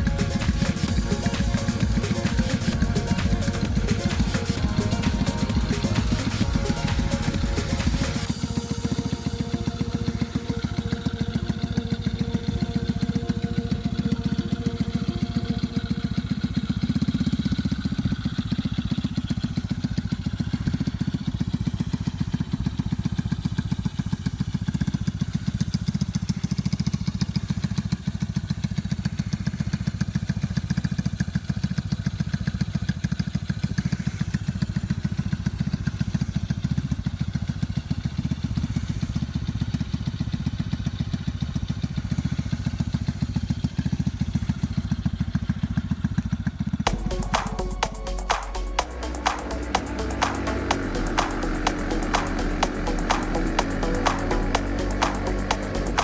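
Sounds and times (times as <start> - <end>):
kart engine puttering: 0.0 - 47.8.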